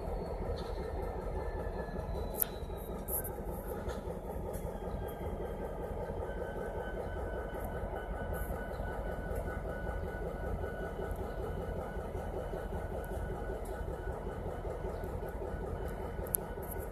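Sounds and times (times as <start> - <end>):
locomotive engines rumbling: 0.0 - 16.9.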